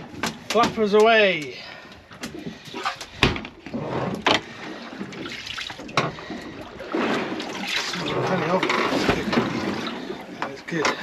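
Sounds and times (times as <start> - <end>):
water sloshing around boat: 0.0 - 11.0.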